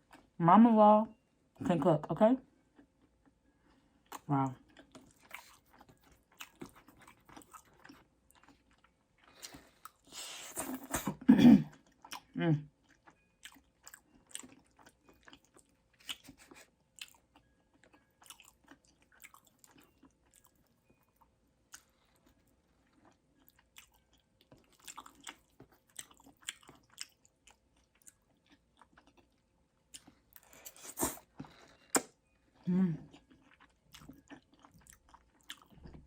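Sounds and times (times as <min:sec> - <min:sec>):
person chewing food: 0:02.7 - 0:36.0.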